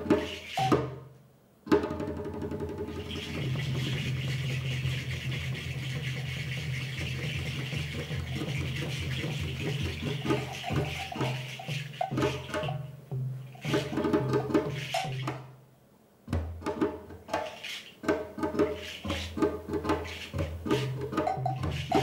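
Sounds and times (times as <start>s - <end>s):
shaker rattle: 0.0s - 0.8s, 2.9s - 15.4s, 17.3s - 22.0s
hand drum strokes: 0.0s - 1.0s, 1.7s - 15.6s, 16.3s - 22.0s.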